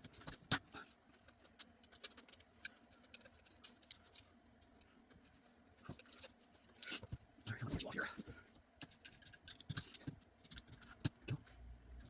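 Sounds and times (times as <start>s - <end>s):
small tools clicking and tapping: 0.0s - 7.6s, 8.2s - 11.5s.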